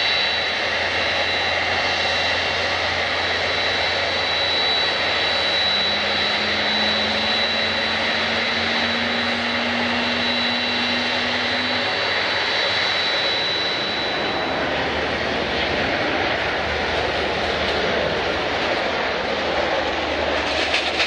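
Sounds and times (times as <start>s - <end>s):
thin high whine: 0.0s - 17.1s
airliner engines rushing: 0.0s - 21.0s.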